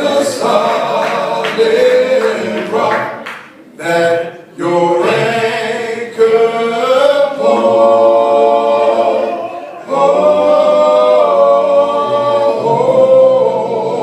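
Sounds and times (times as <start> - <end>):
a cappella group singing chords: 0.0 - 14.0.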